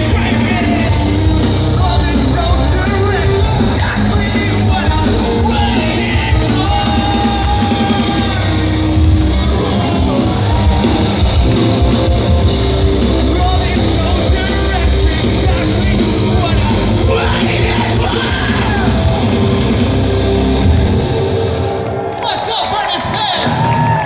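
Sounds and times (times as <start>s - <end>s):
heavy distorted metal music: 0.0s - 24.0s.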